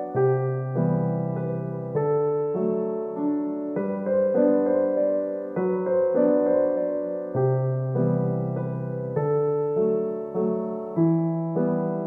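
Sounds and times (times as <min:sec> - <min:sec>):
keyboard playing slow chords: 0:00.0 - 0:12.0.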